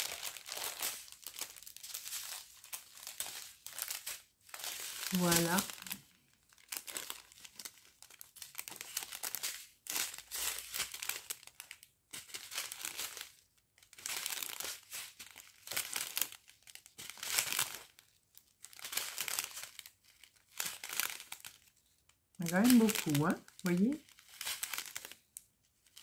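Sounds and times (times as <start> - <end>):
plastic sachets crinkling: 0.0 - 26.0.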